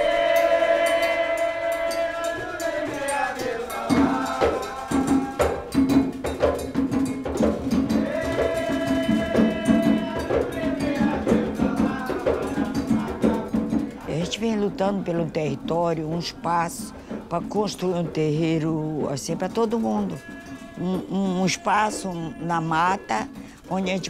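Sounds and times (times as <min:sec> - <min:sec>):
person singing: 0:00.0 - 0:05.8, 0:08.0 - 0:24.0
hand drums steady beat: 0:00.0 - 0:24.0.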